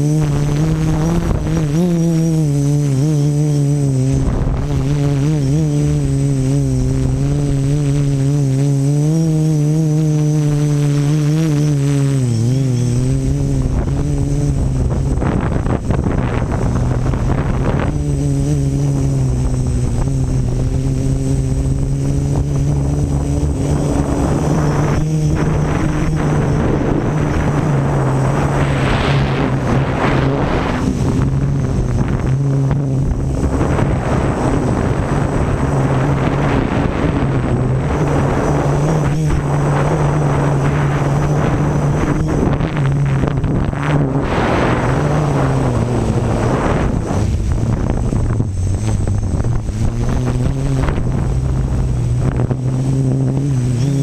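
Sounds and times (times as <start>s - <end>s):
quadcopter motors buzzing: 0.0s - 54.0s
rushing air noise: 0.0s - 54.0s.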